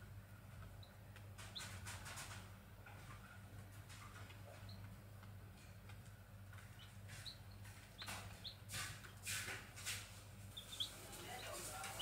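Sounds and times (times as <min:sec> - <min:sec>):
chicks peeping: 0:00.5 - 0:05.3, 0:05.9 - 0:12.0.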